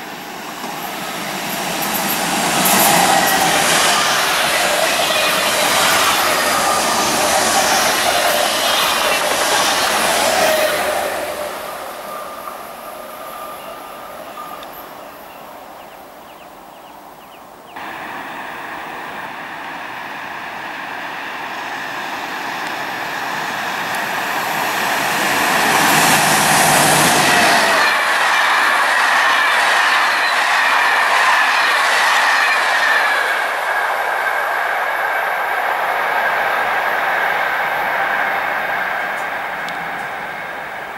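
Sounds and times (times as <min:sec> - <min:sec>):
train rumbling: 0:00.0 - 0:15.8, 0:17.8 - 0:40.9
train wheels on track: 0:00.0 - 0:16.2, 0:17.8 - 0:40.9
train passing: 0:00.0 - 0:40.9.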